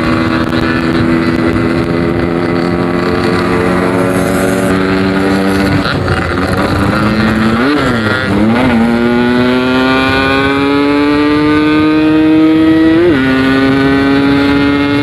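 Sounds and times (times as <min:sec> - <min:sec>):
two-stroke motorcycle riding: 0:00.0 - 0:15.0.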